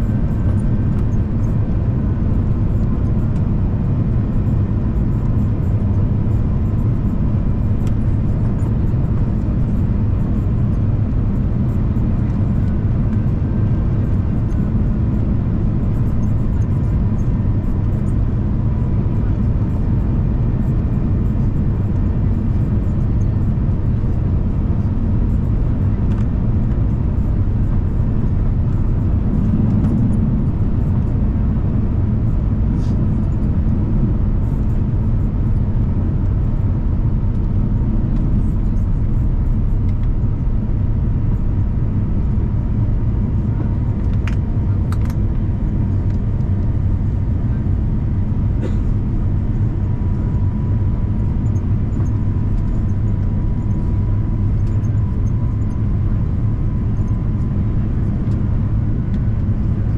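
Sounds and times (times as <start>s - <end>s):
aircraft cabin rumble: 0.0s - 59.9s
thin steady whine: 0.0s - 59.9s.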